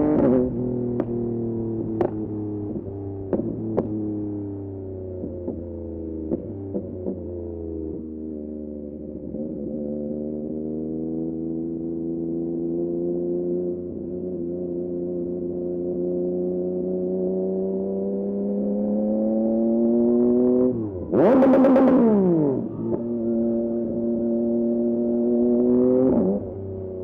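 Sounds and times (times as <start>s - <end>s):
motorcycle engine with crackling exhaust: 0.0s - 27.0s.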